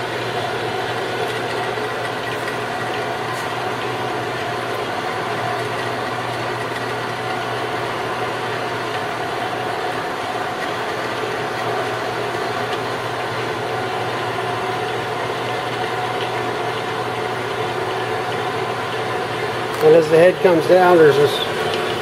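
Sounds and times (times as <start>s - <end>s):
band saw running: 0.0s - 22.0s.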